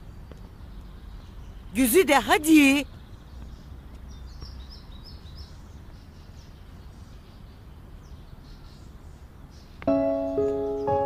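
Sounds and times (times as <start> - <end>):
low steady background noise: 0.0 - 11.0.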